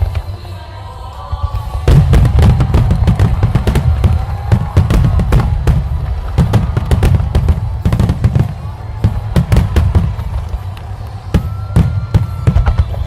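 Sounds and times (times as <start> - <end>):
music playing: 0.0 - 13.0
fireworks bursting and crackling: 1.5 - 13.0.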